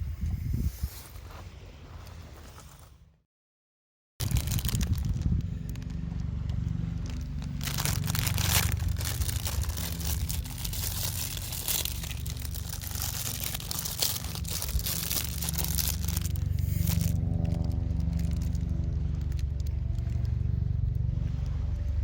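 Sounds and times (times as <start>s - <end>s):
crinkling and crunching rustle: 4.2s - 22.0s
steady low hum: 4.2s - 22.0s.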